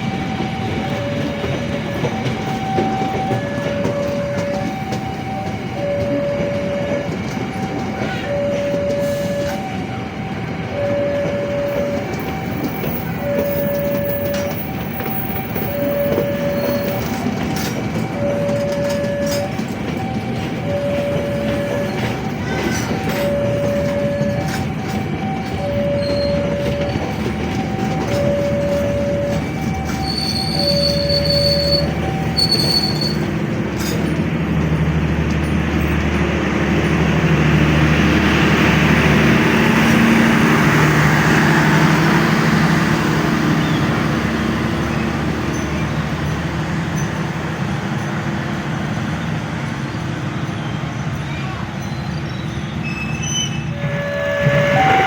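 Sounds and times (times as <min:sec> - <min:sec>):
level crossing alarm: 0:00.0 - 0:51.0, 0:52.2 - 0:55.0
train rumbling past: 0:00.0 - 0:55.0.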